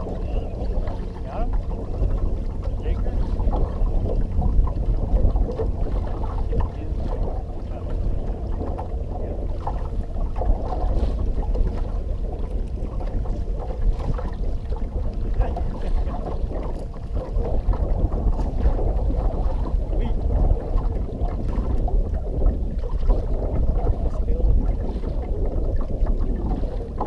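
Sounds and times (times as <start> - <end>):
water lapping against boat hull: 0.0 - 27.0
wind buffeting microphone: 0.0 - 27.0.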